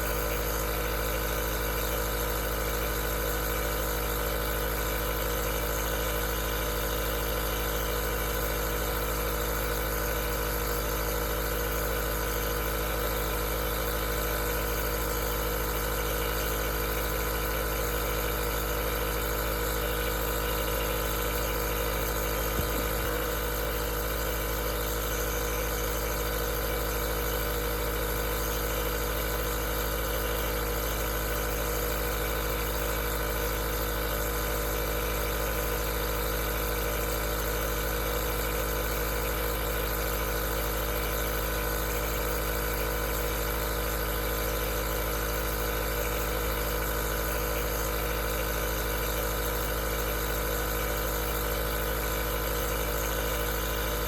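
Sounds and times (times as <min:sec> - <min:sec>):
nebulizer motor hum: 0:00.0 - 0:54.0.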